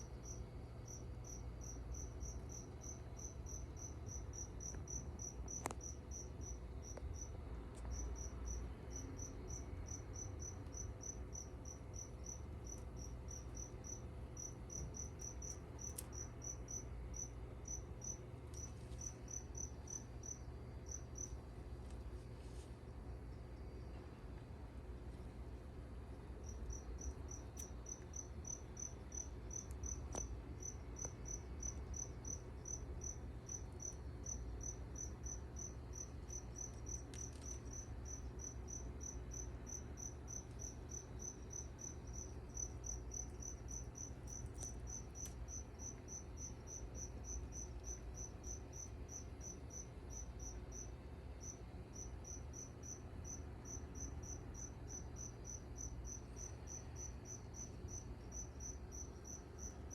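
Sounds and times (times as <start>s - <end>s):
cricket chirping: 0.0s - 59.9s
steady low hum: 0.0s - 59.9s.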